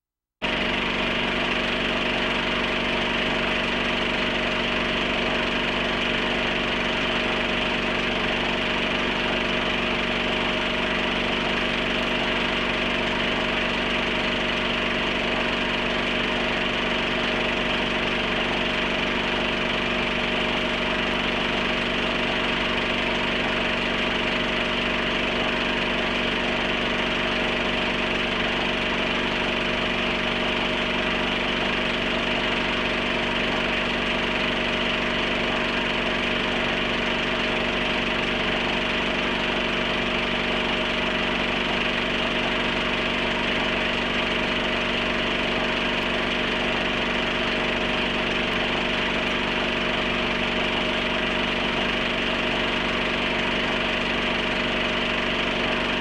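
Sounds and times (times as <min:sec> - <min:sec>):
film projector whirring: 0:00.4 - 0:56.0.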